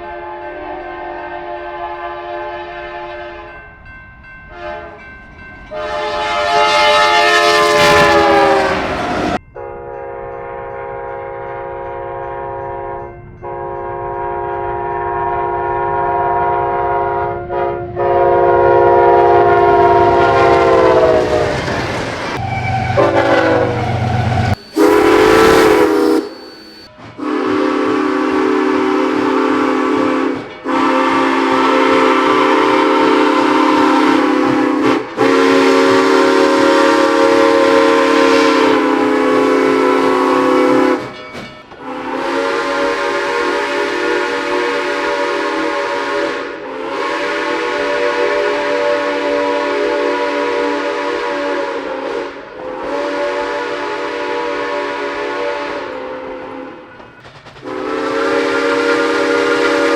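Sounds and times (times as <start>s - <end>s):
train horn chime blasts: 0.0s - 21.5s, 22.4s - 59.9s.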